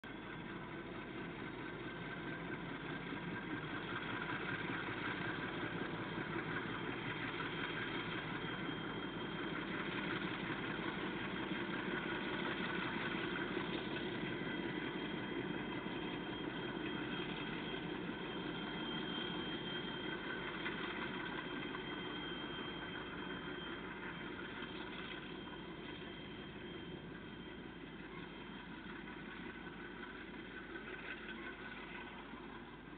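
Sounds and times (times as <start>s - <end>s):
diesel locomotives running: 0.0s - 32.9s.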